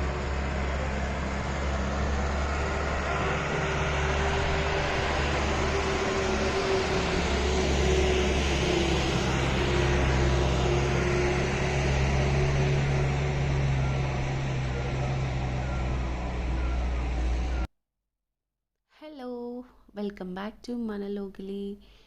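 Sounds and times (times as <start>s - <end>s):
road noise: 0.0s - 17.7s
vehicle engine hum: 0.0s - 17.7s.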